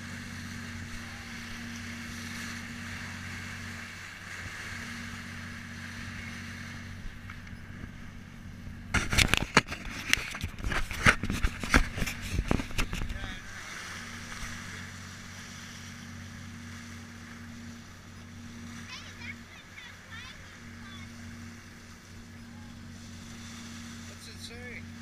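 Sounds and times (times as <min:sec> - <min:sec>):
boat engine hum: 0:00.0 - 0:25.0
water and wind hiss: 0:00.0 - 0:25.0.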